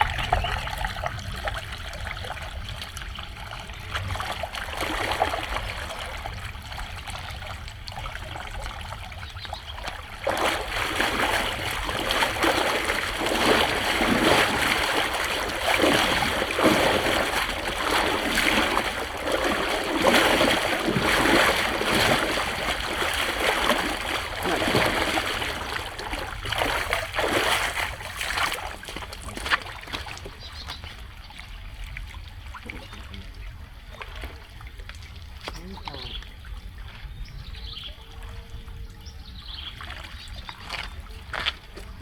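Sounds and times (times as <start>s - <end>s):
floodwater splashing at a drain: 0.0s - 36.7s.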